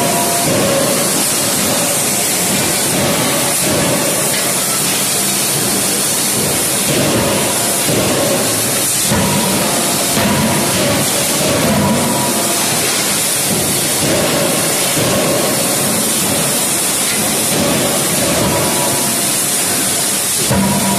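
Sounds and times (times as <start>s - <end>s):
loud machinery roar and hiss: 0.0s - 20.9s.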